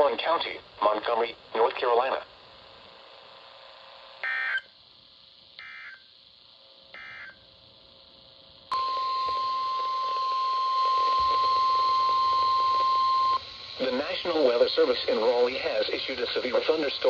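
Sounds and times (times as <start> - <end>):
radio hiss: 0.0 - 17.0.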